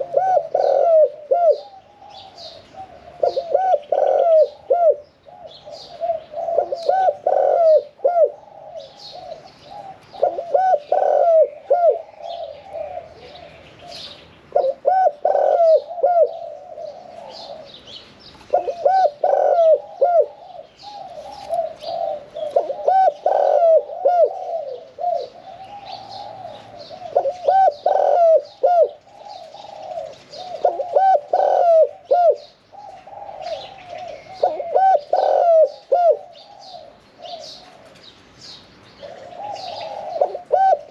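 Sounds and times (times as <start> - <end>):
dove cooing: 0.0 - 38.1, 38.9 - 40.9.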